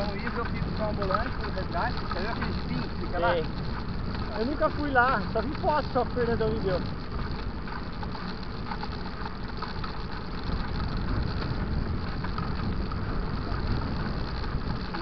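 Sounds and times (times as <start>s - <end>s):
bike tyres rolling: 0.0s - 15.0s
wind on microphone: 0.0s - 15.0s.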